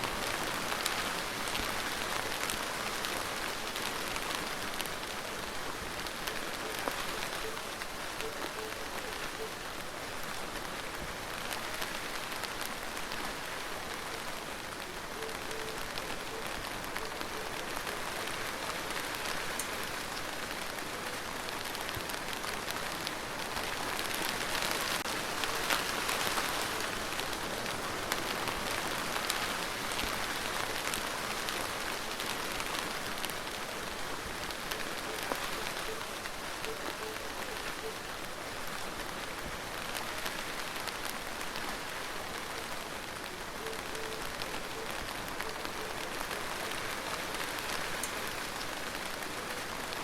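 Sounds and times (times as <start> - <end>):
steady rain falling: 0.0 - 50.0
raindrops ticking: 0.1 - 50.0.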